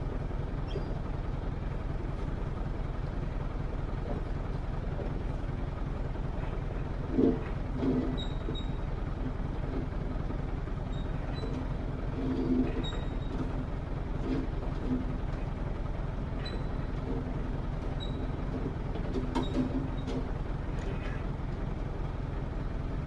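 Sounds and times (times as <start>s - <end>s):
large engine droning: 0.0s - 23.0s.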